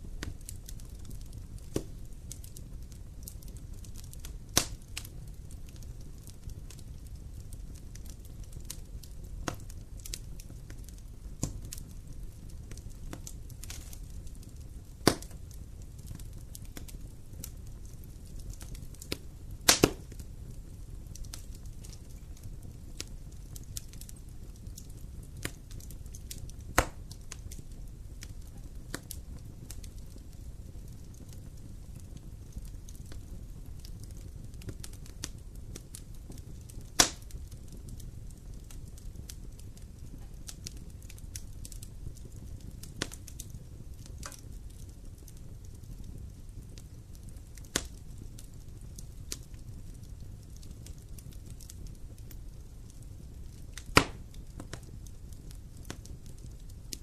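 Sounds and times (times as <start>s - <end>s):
campfire crackling and popping: 0.0s - 57.0s
low steady fire rumble: 0.0s - 57.0s.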